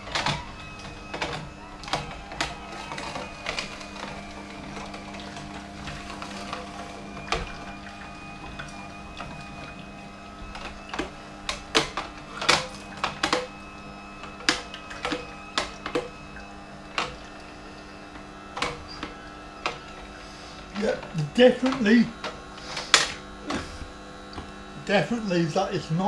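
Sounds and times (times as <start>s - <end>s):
juicer motor humming: 0.0s - 26.0s.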